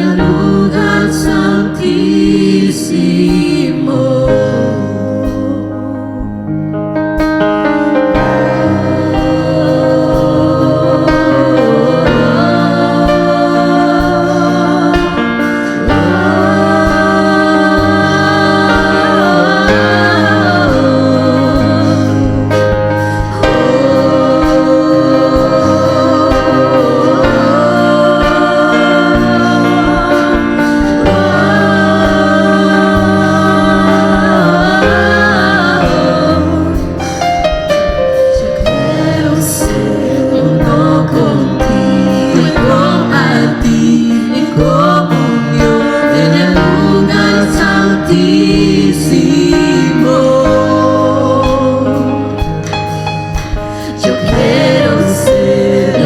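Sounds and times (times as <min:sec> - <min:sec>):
band playing sustained chords: 0:00.0 - 0:56.0
person singing: 0:00.0 - 0:56.0.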